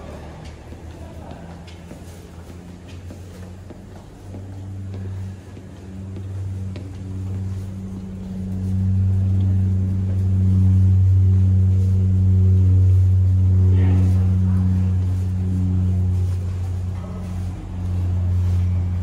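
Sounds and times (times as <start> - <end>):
jet engine hum in cabin: 0.0 - 19.0.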